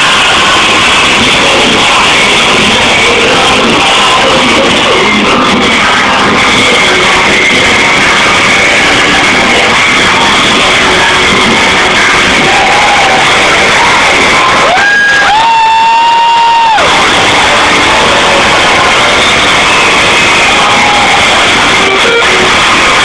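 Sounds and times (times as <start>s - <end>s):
live heavy rock band: 0.0s - 23.0s.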